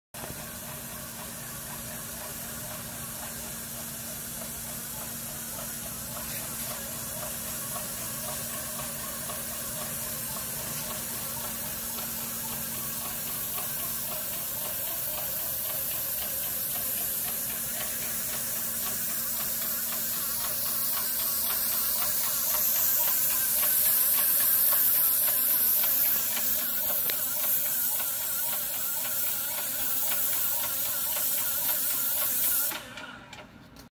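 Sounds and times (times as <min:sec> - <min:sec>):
paint sprayer humming: 0:00.2 - 0:33.2
paint spray hissing: 0:00.5 - 0:32.8.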